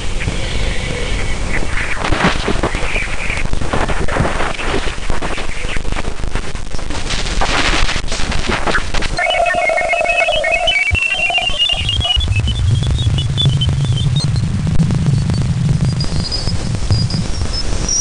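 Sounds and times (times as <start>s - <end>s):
crackling radio static with clicks: 0.0s - 18.0s.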